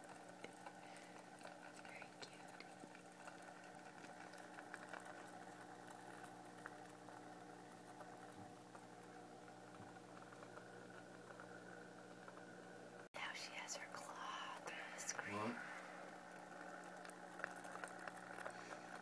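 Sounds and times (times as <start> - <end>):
small ticks: 0.0 - 12.8, 16.3 - 19.0
aquarium water bubbling: 0.0 - 19.0
steady low hum: 0.0 - 19.0.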